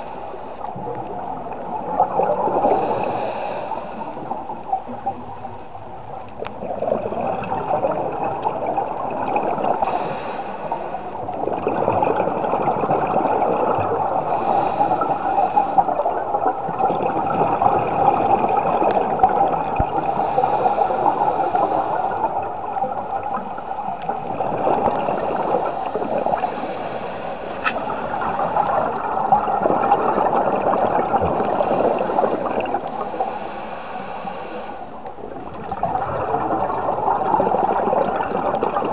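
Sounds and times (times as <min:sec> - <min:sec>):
underwater exhaled air bubbling: 0:00.0 - 0:38.9.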